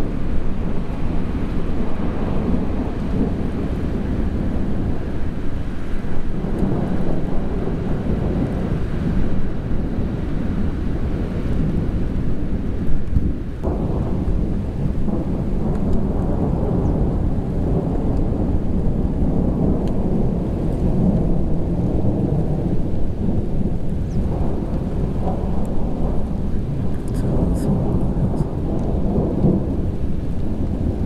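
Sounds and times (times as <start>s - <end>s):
rolling thunder: 0.0s - 31.0s.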